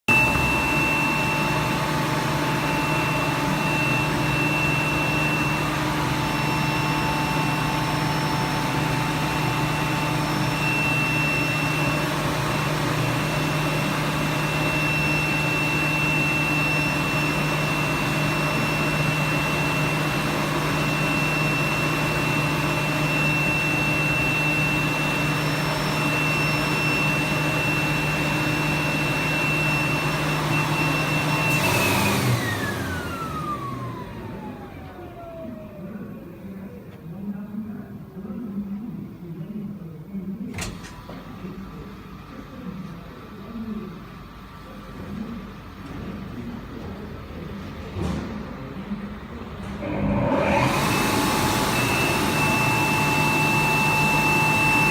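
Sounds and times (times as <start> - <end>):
machine motor hum with whine: 0.1 - 54.9.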